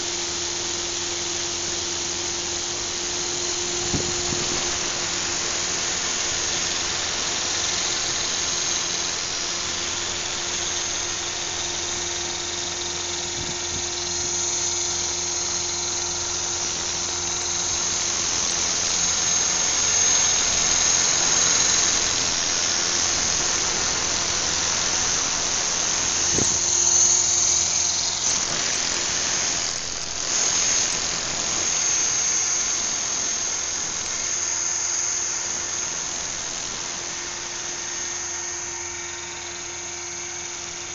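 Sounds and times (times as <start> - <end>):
helicopter rotor spinning: 0.0 - 40.3
model helicopter motor whine: 0.0 - 40.9.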